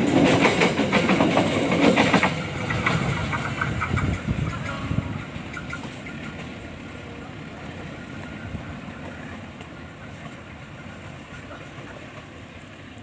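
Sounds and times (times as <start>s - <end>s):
train running on rails: 0.0s - 13.0s.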